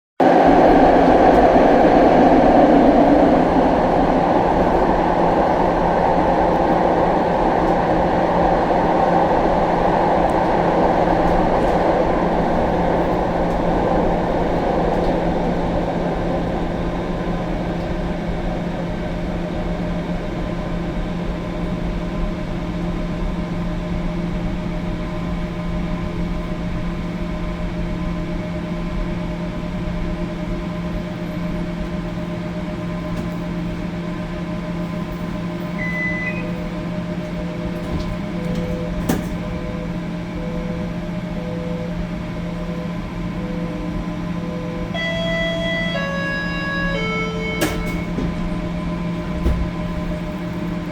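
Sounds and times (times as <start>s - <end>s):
light rail vehicle rolling: 0.2s - 50.9s.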